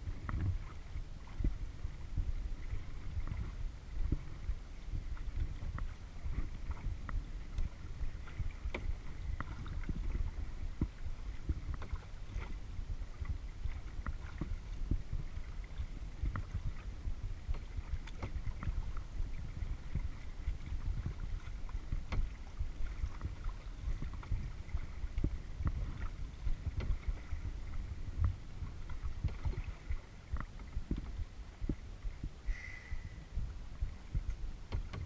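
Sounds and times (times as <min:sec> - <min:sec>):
paddle splashing and dripping: 0:00.0 - 0:35.0
wind on microphone: 0:00.0 - 0:35.0.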